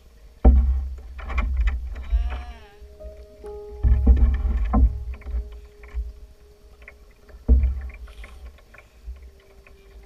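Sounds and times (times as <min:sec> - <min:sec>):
canoe paddle strokes in water: 0:00.3 - 0:02.1, 0:03.2 - 0:10.0.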